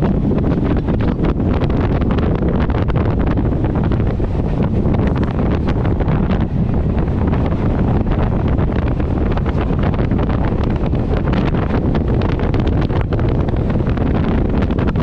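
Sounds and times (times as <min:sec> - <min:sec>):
train coach rumbling: 0:00.0 - 0:15.0
wind buffeting the microphone: 0:00.0 - 0:15.0.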